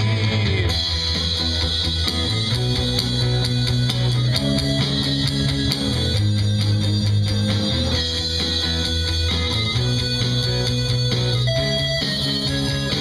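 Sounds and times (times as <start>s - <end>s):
bass line: 0.0s - 13.0s
drum kit beat: 0.0s - 13.0s
electric guitars: 0.0s - 13.0s
keyboard: 0.0s - 13.0s.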